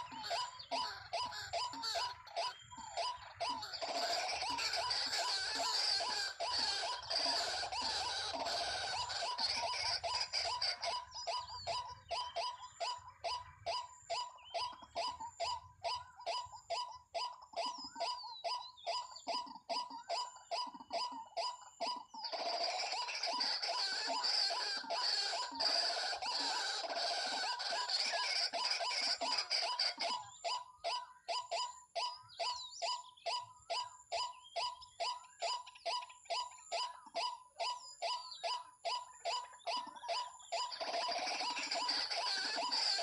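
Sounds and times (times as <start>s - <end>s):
waterhens calling: 0.0s - 43.0s.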